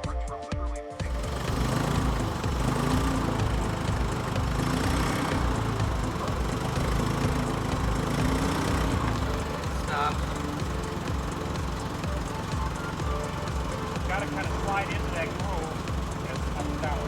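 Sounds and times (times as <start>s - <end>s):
background music: 0.0s - 17.0s
truck engine idling: 1.0s - 17.0s.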